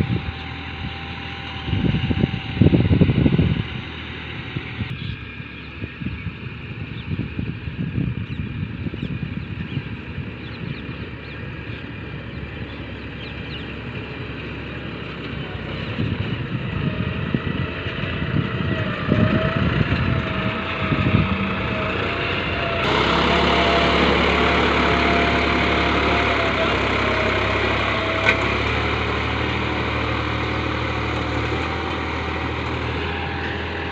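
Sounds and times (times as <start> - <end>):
tractor engine rumbling: 0.0 - 33.9.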